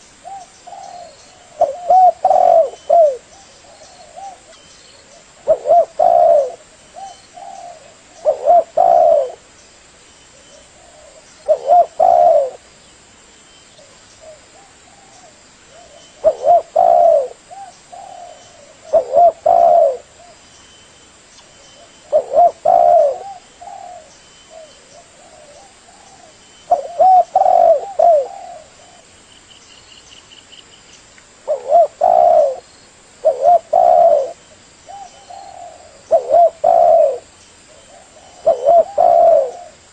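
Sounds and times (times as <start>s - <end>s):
dove cooing: 0.0s - 9.5s, 10.3s - 12.7s, 13.8s - 20.4s, 21.8s - 29.2s, 31.4s - 39.9s.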